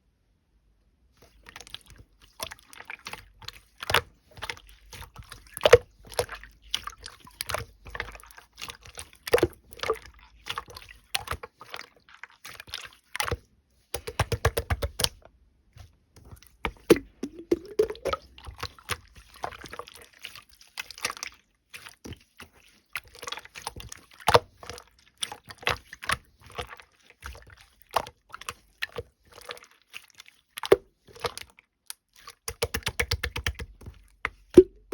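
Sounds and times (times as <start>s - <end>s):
slime squishing with wet pops: 1.2s - 34.9s.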